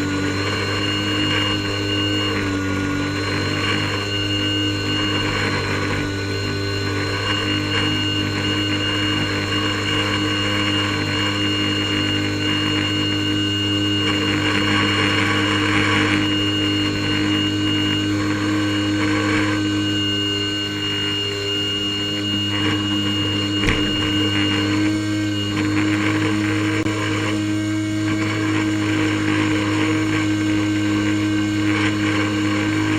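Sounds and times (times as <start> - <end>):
airboat engine and propeller: 0.0 - 32.9.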